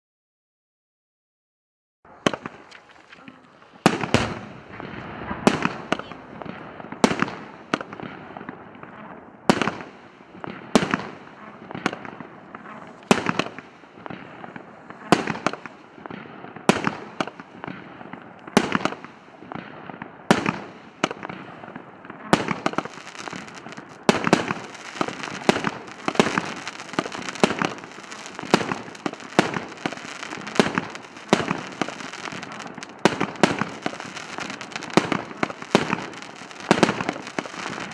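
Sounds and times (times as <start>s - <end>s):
firework bangs: 2.1s - 37.9s
firework crackling: 2.1s - 37.9s.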